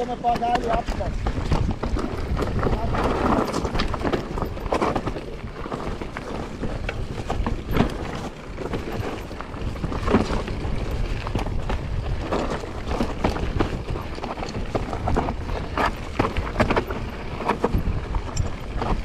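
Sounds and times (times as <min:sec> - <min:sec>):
bike rattling and knocking: 0:00.0 - 0:19.0
wind and tyre rumble: 0:00.0 - 0:19.0.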